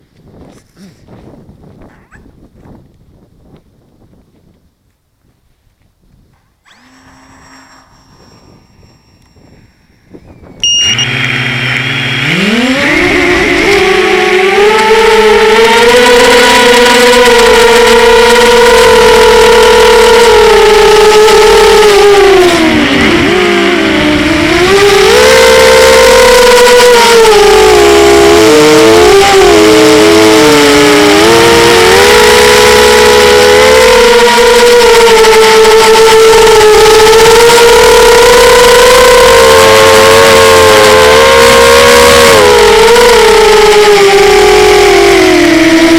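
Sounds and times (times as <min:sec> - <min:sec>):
model airplane motor and propeller: 0:06.1 - 0:45.9.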